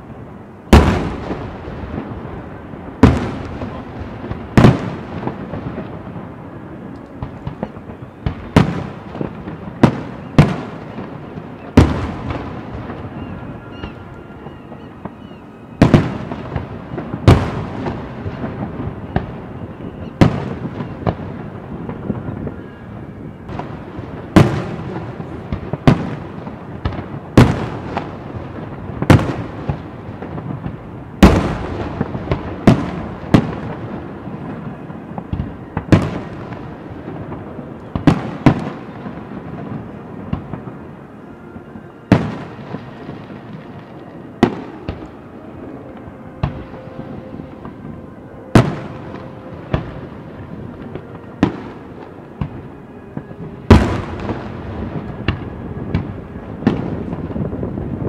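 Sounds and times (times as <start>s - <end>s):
firework booms: 0.7s - 6.4s, 7.2s - 40.8s, 42.1s - 45.2s, 48.5s - 58.0s.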